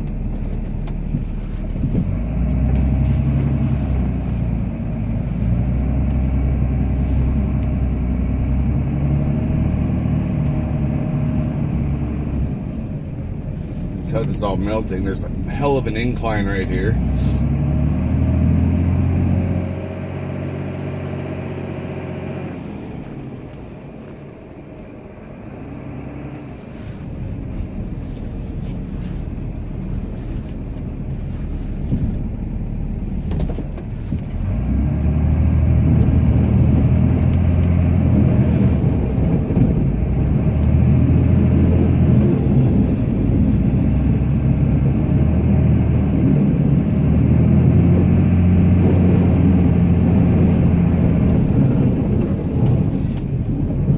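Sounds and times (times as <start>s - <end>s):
diesel truck engine: 0.0s - 53.9s.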